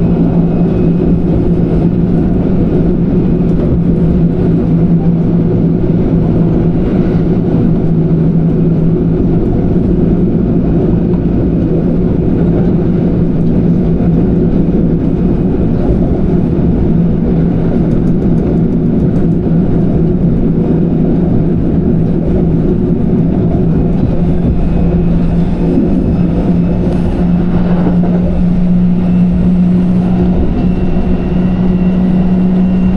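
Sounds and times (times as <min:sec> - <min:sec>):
low motor hum: 0:00.0 - 0:32.9
train wheels rumbling on track: 0:00.0 - 0:32.9.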